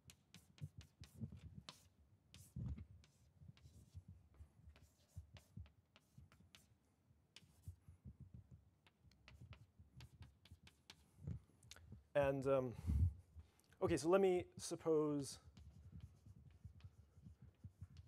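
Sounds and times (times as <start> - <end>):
chalk tapping and scratching on blackboard: 0.0 - 11.4, 14.6 - 18.0.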